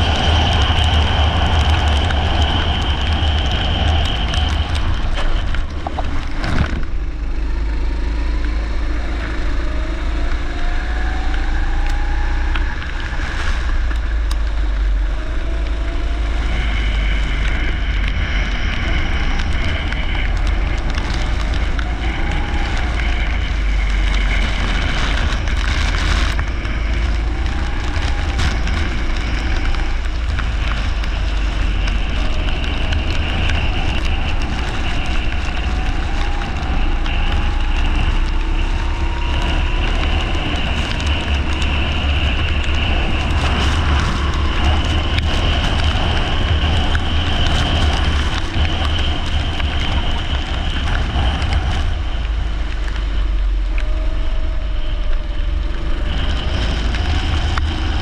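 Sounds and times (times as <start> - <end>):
go-kart engine running hard: 0.0 - 58.0
wind rumble on microphone: 0.0 - 58.0.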